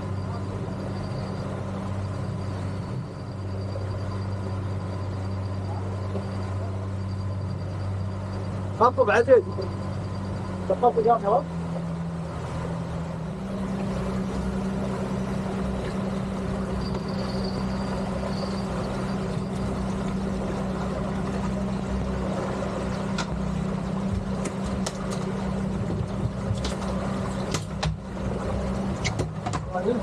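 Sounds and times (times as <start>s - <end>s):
outboard motors running: 0.0s - 30.0s
water rushing past hull: 0.0s - 30.0s.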